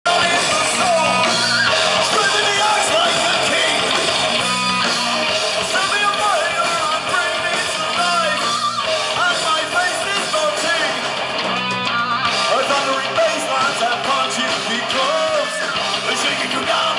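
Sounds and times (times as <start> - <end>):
bass guitar: 0.0 - 16.9
distorted electric guitar: 0.0 - 16.9
drum kit: 0.0 - 16.9.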